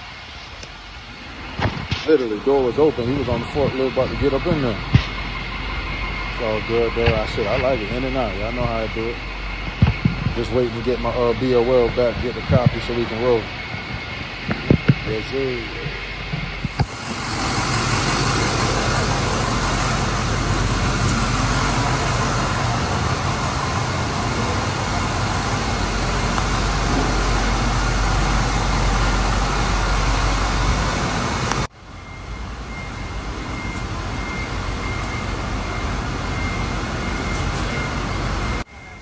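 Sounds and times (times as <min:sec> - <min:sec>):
machinery rumble and hiss: 0:00.0 - 0:39.0
steady hum with high whine: 0:00.0 - 0:39.0.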